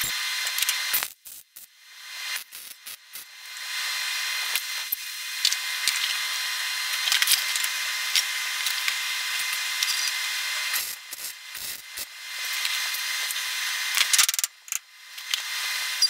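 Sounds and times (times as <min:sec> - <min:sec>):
welding arc crackling sizzle: 0:00.0 - 0:16.0.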